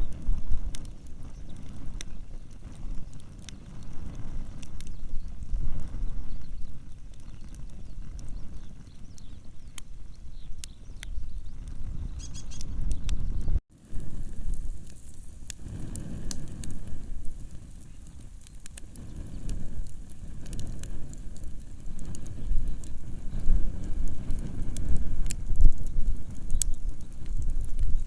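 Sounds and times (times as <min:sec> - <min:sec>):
wood fire pops and crackles: 0:00.0 - 0:28.0.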